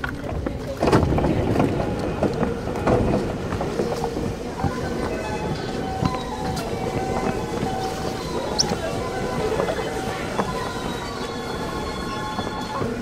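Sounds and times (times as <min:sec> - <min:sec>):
train wheels rumbling on rails: 0:00.0 - 0:13.0
steady whining tones: 0:01.5 - 0:13.0.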